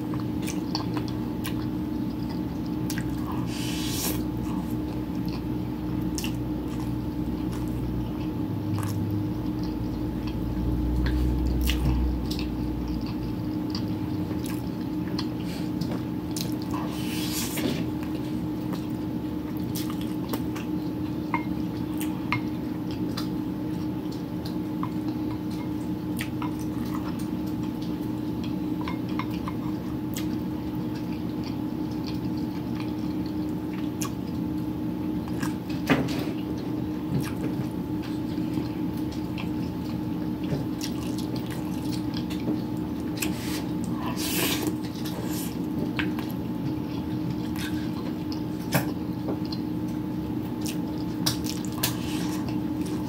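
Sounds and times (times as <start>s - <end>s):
steady low hum: 0.0s - 53.0s
wet chewing: 0.1s - 34.4s, 36.5s - 53.0s.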